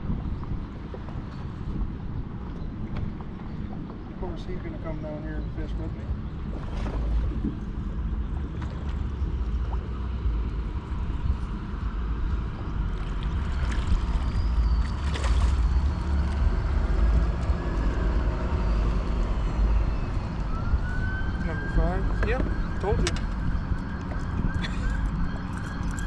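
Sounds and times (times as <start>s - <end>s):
boat motor rumbling: 0.0s - 26.0s.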